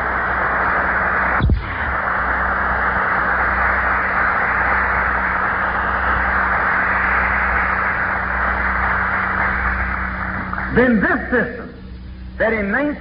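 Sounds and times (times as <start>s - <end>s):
audience applauding: 0.0s - 11.0s
low mains hum: 0.0s - 13.0s.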